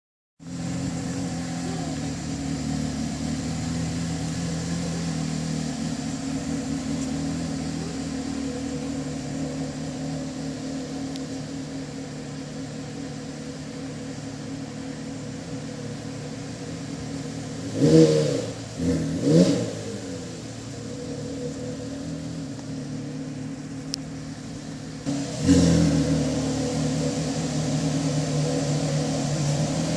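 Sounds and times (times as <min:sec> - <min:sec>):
car engine idling and revving: 0:00.4 - 0:29.9.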